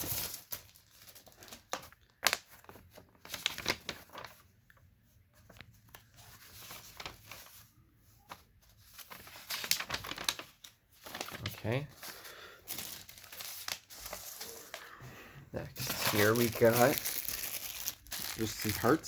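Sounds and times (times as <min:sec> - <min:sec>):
plastic and cardboard rustling: 0:00.0 - 0:19.0.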